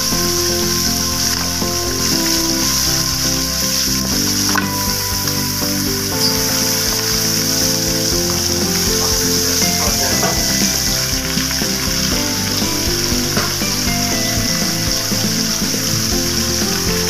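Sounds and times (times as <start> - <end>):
background music: 0.0 - 17.0
meat sizzling in hot oil: 0.0 - 17.0.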